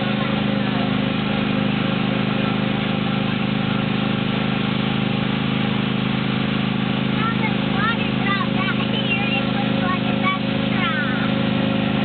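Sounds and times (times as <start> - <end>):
engine low drone: 0.0 - 12.0.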